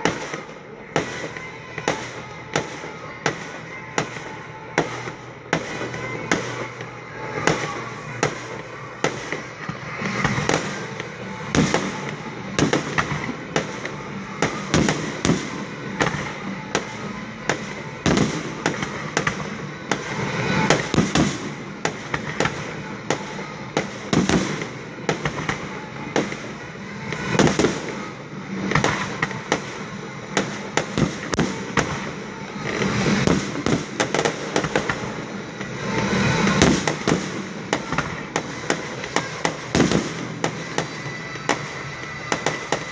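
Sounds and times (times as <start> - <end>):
fireworks bangs: 0.0 - 42.9
fireworks crackling: 0.0 - 42.9.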